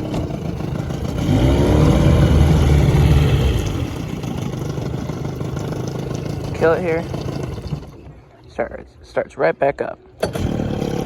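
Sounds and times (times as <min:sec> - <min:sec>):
outboard motor revving and idling: 0:00.0 - 0:08.8, 0:10.1 - 0:11.0.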